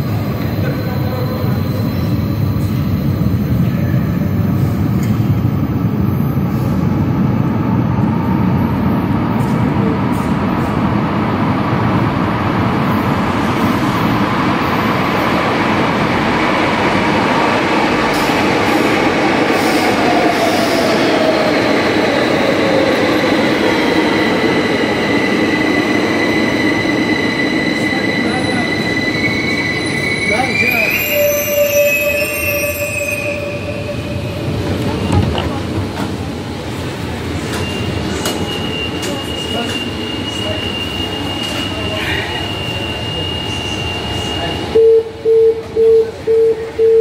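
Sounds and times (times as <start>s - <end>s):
high steady train squeal: 0.0s - 44.8s
train rumbling through tunnel: 0.0s - 47.0s.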